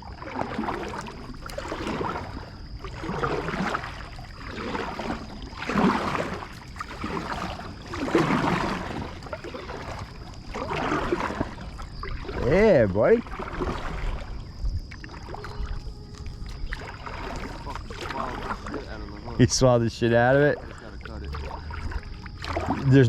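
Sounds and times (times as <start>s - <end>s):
water sloshing around a kayak: 0.0s - 23.0s.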